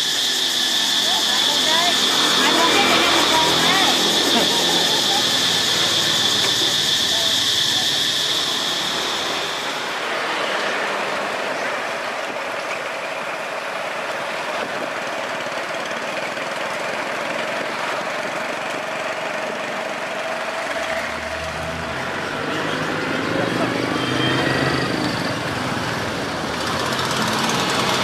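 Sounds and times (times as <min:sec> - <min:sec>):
outdoor noise: 0:00.0 - 0:28.0
vehicle engine running: 0:00.0 - 0:28.0.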